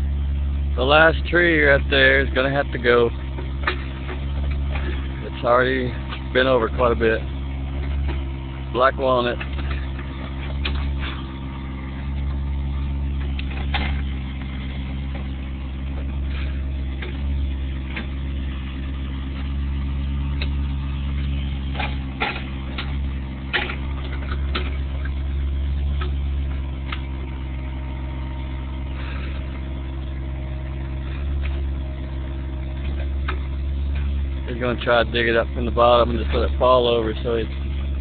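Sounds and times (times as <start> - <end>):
excavator diesel engine: 0.0 - 38.0
knocks and clanks: 2.6 - 38.0.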